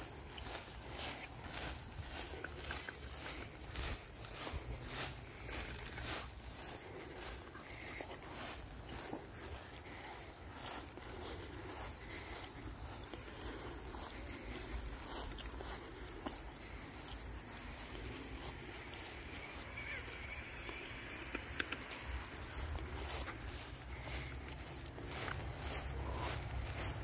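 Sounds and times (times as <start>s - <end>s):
insects high-pitched hiss: 0.0s - 27.0s.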